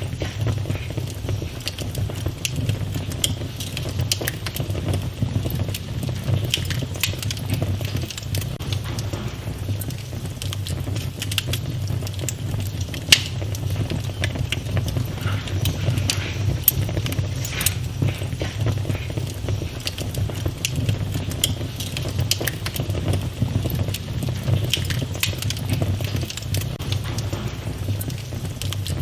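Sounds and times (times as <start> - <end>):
fire crackles and pops: 0.0 - 29.0
fire flames rumbling: 0.0 - 29.0.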